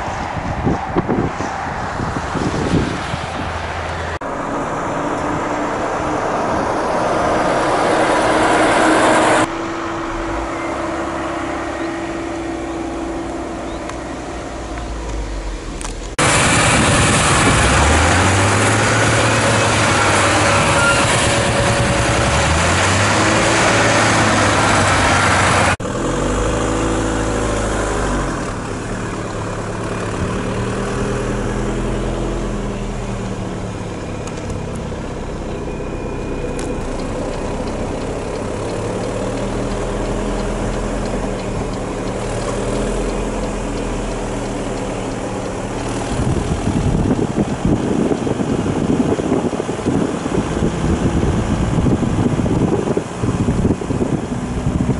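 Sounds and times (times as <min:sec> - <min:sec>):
diesel truck engine under load: 0:00.0 - 0:54.9
quieter vehicle engine: 0:00.0 - 0:54.9.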